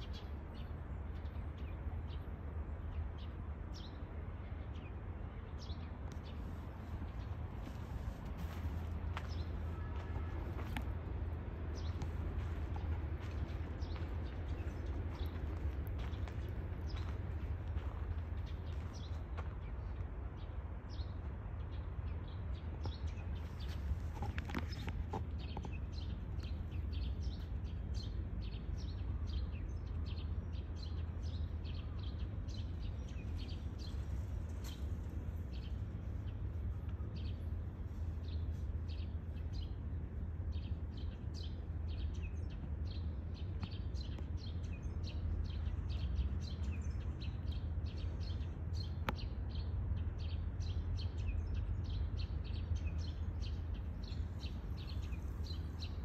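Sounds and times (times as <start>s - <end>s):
small birds chirping: 0.0s - 56.0s
steady low rumble: 0.0s - 56.0s.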